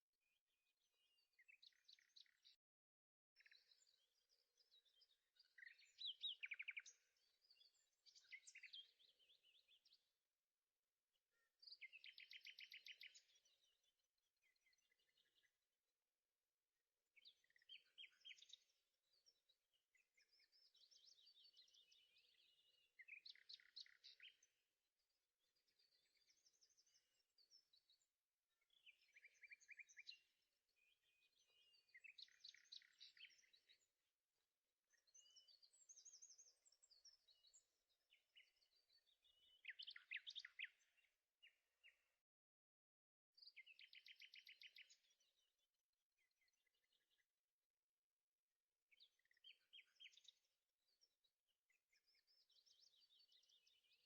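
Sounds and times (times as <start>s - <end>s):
faint birdsong chirping: 0.0s - 54.0s.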